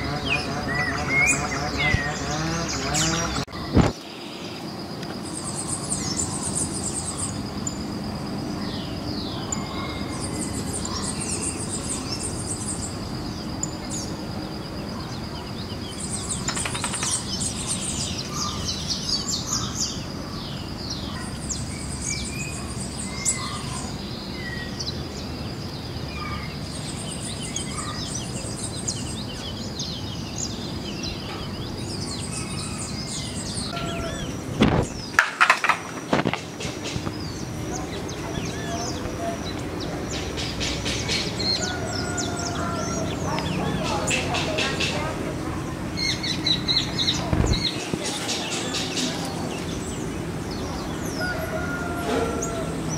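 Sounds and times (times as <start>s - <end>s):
insect drone: 0.0s - 52.9s
small birds chirping: 0.0s - 52.9s.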